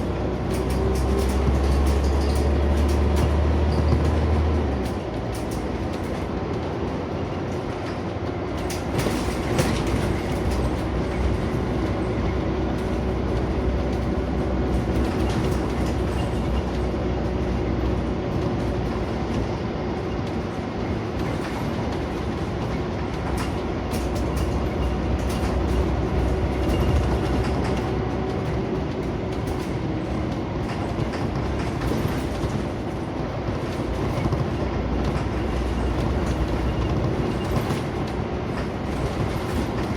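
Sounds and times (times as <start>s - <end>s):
bodywork rattles and clicks: 0.0s - 39.9s
bus engine hum: 0.0s - 39.9s
road noise: 0.0s - 39.9s.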